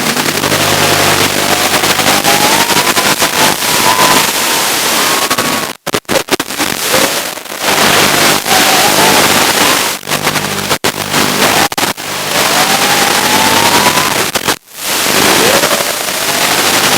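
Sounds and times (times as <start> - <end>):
loud static hiss: 0.0 - 16.9.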